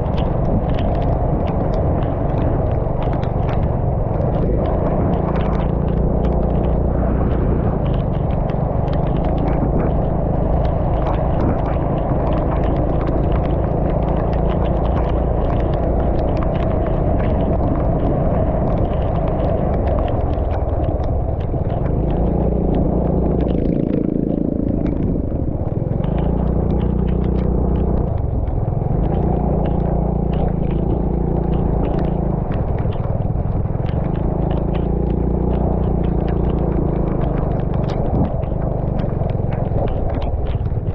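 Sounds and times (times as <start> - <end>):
rain pattering: 0.0 - 40.9
vehicle engine running: 0.0 - 40.9.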